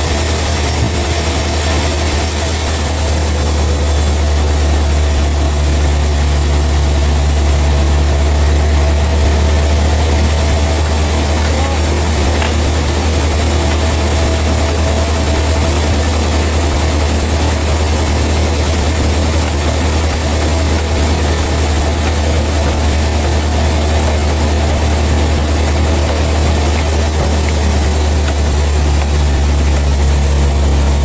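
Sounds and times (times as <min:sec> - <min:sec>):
heavy engine droning: 0:00.0 - 0:31.0.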